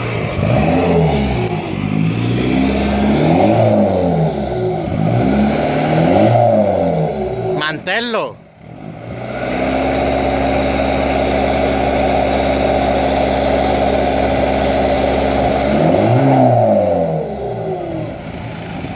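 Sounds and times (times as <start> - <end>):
car engine revving and warbling: 0.0 - 13.0, 13.7 - 18.2.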